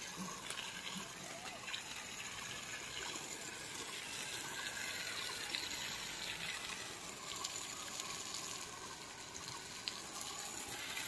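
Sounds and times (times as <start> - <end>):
hose spraying water on soil: 0.0 - 11.0.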